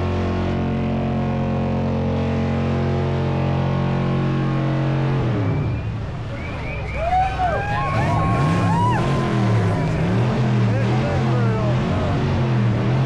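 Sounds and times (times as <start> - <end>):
car engine running steadily: 0.0 - 13.0.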